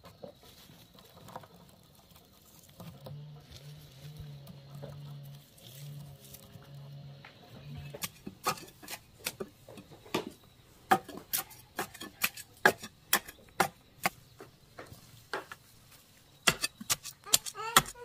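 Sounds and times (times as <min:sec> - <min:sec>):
stick tamping soil: 0:00.0 - 0:18.0.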